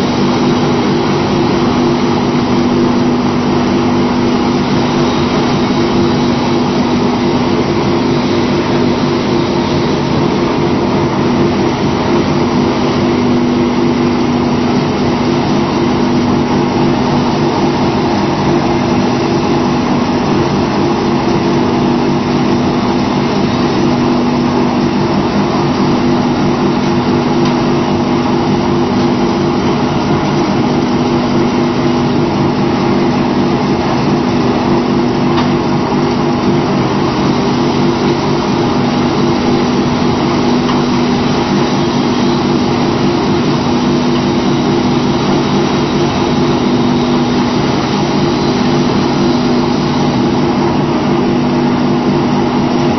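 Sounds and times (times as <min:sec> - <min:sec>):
machine humming: 0:00.0 - 0:52.9.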